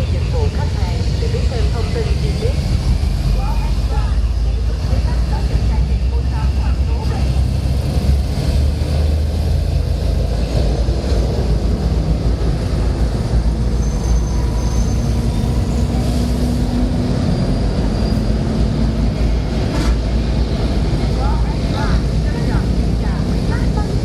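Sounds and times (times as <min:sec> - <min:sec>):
heavy engine rumble: 0:00.0 - 0:24.0.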